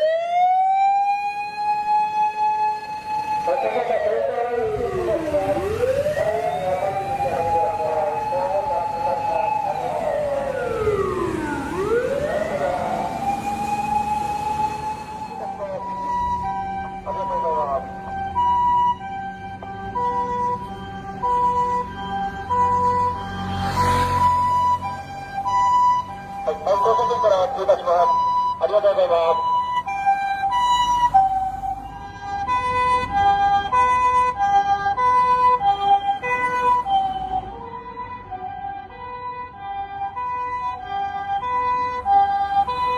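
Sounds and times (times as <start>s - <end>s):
two-tone ambulance siren: 0.0s - 42.9s
wailing fire engine siren: 0.0s - 42.9s.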